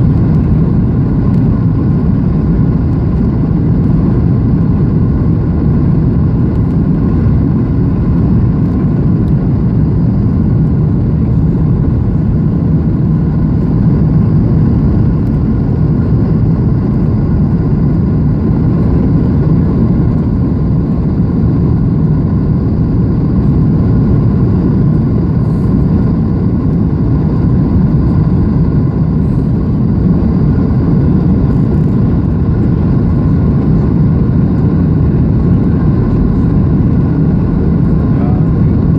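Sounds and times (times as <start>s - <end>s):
low rumble of jet engines and airflow: 0.0s - 38.9s.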